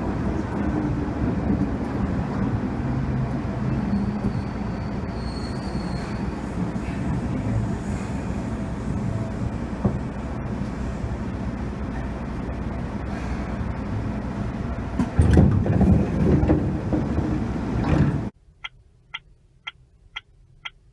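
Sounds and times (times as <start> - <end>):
train rumbling and clattering: 0.0 - 18.4.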